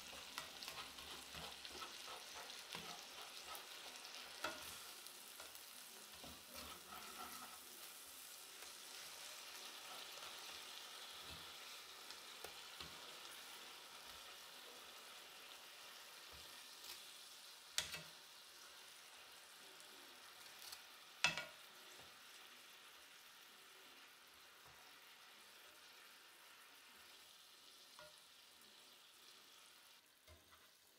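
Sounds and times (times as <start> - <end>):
chicken sizzling in a skillet: 0.0 - 30.9.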